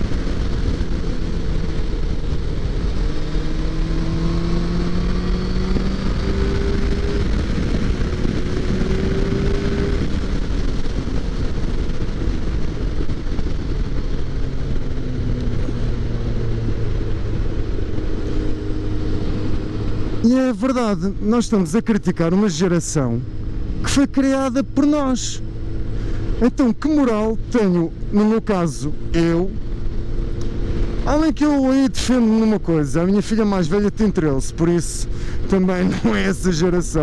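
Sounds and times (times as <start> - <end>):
motorcycle engine running: 0.0 - 37.0
wind and road noise: 0.0 - 37.0.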